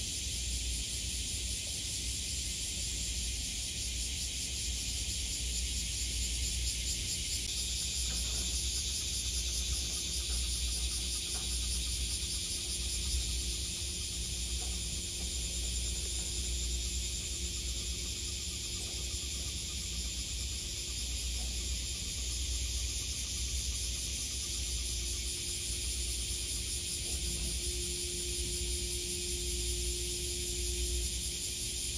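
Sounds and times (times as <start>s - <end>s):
faint hum: 0.0s - 31.9s
high-pitched hiss: 0.0s - 31.9s.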